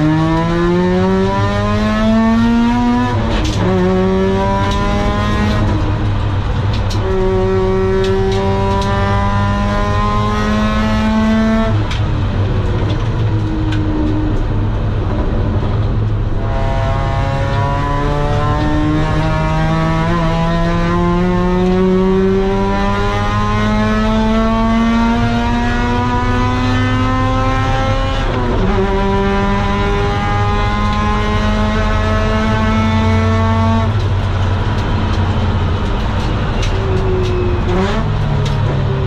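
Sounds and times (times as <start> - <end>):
rotary engine at full throttle: 0.0 - 39.0.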